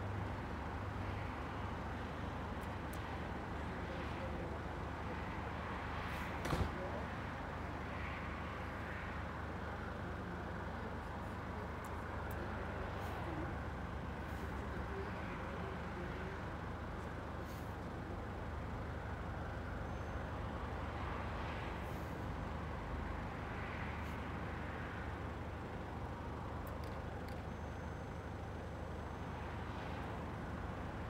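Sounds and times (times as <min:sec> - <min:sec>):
road traffic rumble and hiss: 0:00.0 - 0:31.0.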